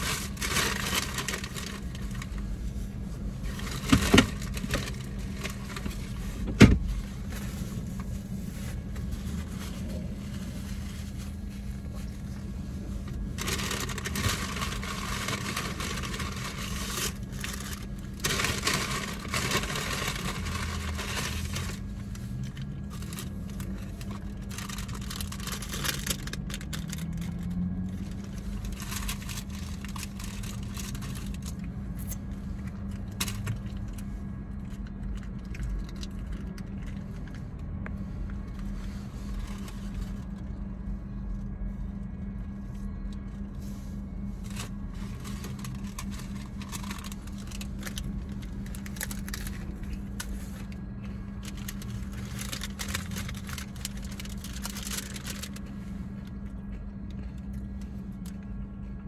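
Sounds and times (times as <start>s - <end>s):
paper wrappers rustling: 0.0s - 31.7s, 42.6s - 58.4s
low car cabin hum: 0.0s - 59.0s
crunchy tacos being chewed: 7.2s - 59.0s.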